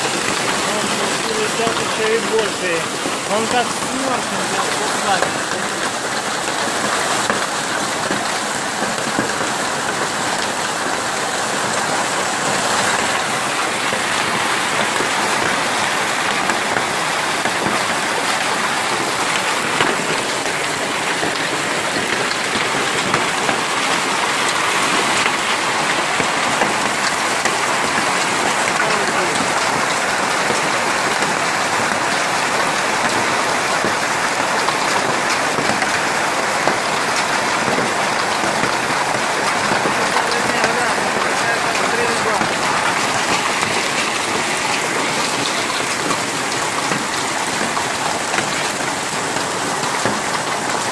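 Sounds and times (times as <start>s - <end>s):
hail and rain pelting ground: 0.0s - 50.9s
hailstones ticking: 0.0s - 50.9s.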